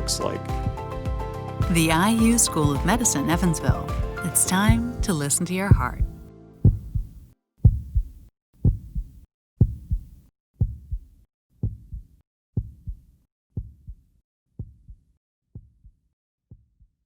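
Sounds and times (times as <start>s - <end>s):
heartbeat thuds: 0.5s - 14.0s, 14.6s - 15.0s, 15.6s - 15.9s.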